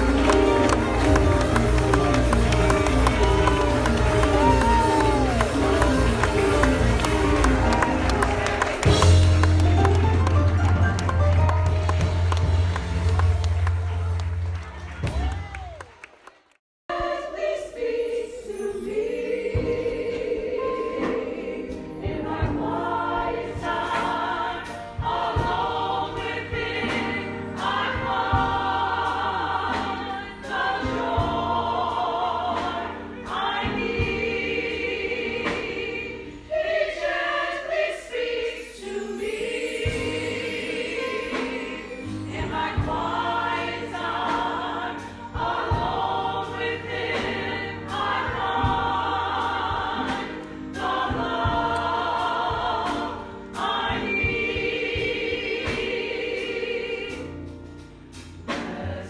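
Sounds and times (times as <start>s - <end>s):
congregation singing: 0.0s - 14.6s, 16.9s - 59.0s
low musical accompaniment: 0.0s - 15.4s, 17.0s - 59.0s.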